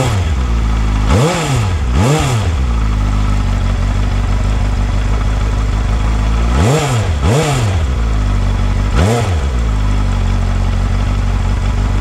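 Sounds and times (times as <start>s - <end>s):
engine idling with throttle blips: 0.0s - 12.0s.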